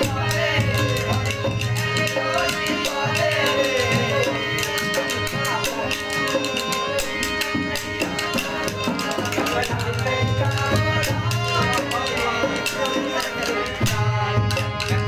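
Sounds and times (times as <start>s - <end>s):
harmonium chords: 0.0s - 15.0s.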